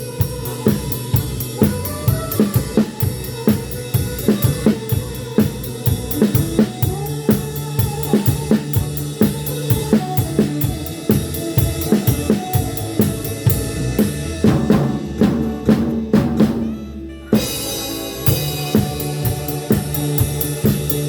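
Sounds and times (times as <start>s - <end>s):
drum kit playing a beat: 0.0s - 21.0s.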